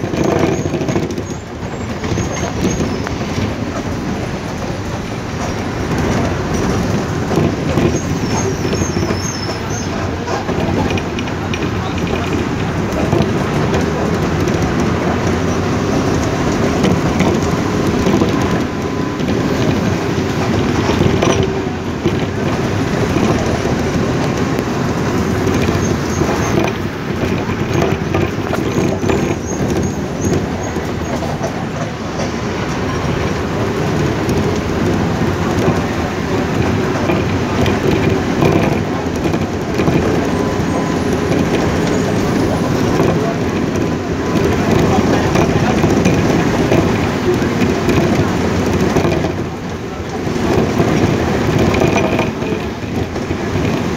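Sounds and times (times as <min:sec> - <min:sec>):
small rattles and knocks: 0:00.0 - 0:53.9
vehicle interior rumble: 0:00.0 - 0:53.9.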